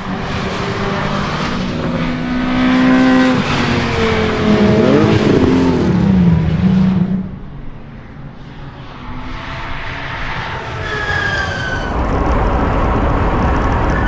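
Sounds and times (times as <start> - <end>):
racing car engines passing: 0.0 - 14.0.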